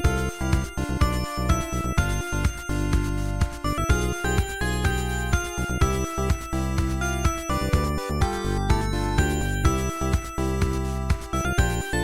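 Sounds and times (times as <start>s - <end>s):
video game style music: 0.0s - 12.0s.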